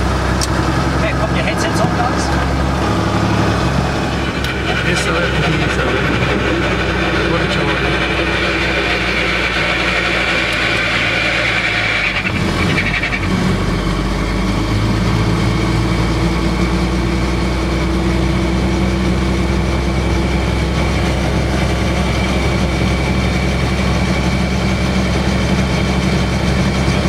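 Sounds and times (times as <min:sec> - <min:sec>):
helicopter engine and rotor running: 0:00.0 - 0:27.0.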